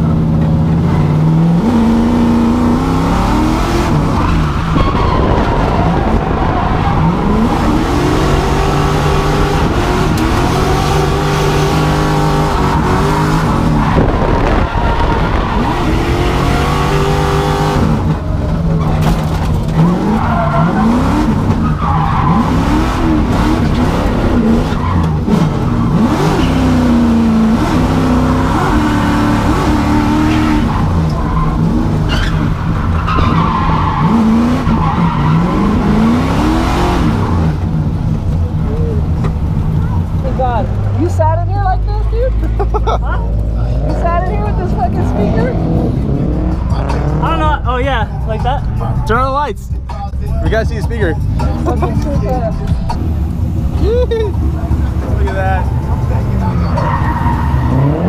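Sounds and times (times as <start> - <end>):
car engine revving hard: 0.0 - 18.6, 19.2 - 41.0, 43.7 - 47.8, 52.9 - 58.0
tires squealing: 0.6 - 58.0.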